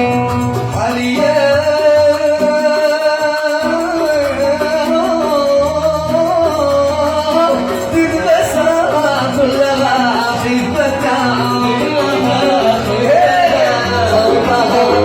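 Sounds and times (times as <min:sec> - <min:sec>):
plucked oud: 0:00.0 - 0:15.0.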